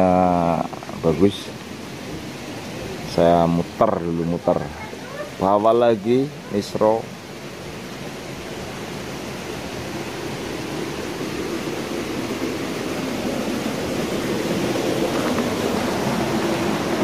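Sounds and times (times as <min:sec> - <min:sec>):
steady rushing noise: 0:00.2 - 0:17.0.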